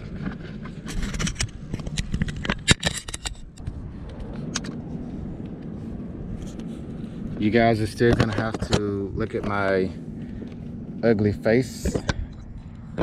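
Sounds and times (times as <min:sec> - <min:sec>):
handling clicks and scrapes: 0:00.0 - 0:13.0
low steady rumble: 0:00.0 - 0:13.0.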